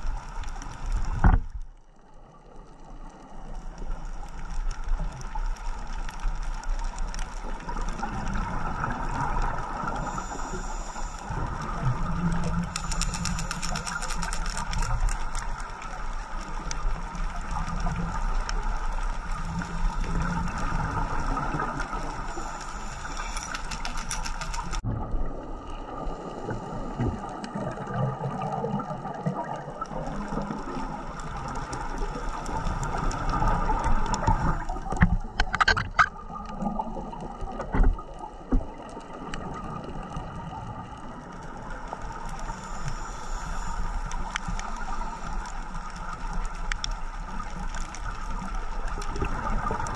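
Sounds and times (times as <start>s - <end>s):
underwater hiss with crackling clicks: 0.0s - 1.8s, 2.6s - 24.8s, 26.1s - 49.9s
underwater bubbling: 0.0s - 49.9s.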